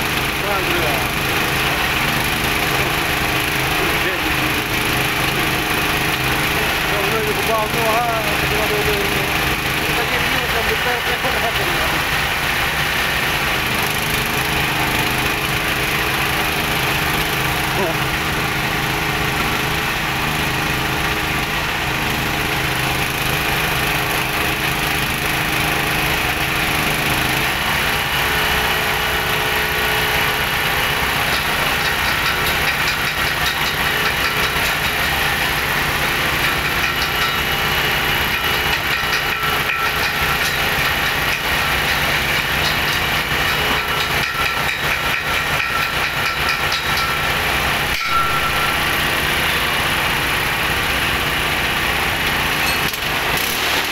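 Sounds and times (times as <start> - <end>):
small engine running steadily: 0.0 - 53.9.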